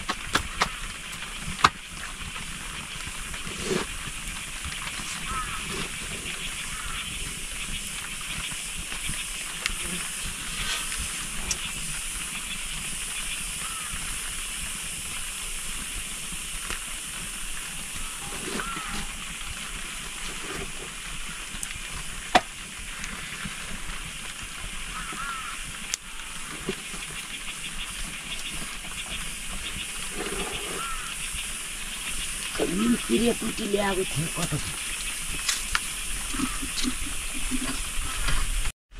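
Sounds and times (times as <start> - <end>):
log fire hissing and crackling: 0.0 - 38.8.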